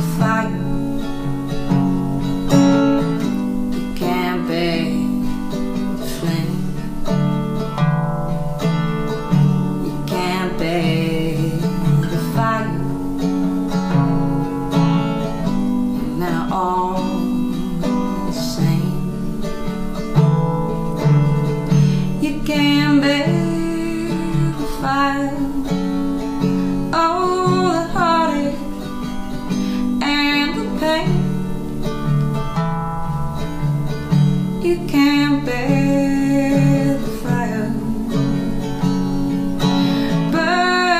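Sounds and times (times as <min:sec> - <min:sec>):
woman singing: 0:00.0 - 0:07.8, 0:09.2 - 0:20.3, 0:21.0 - 0:40.9
strummed resonator guitar: 0:00.0 - 0:40.9.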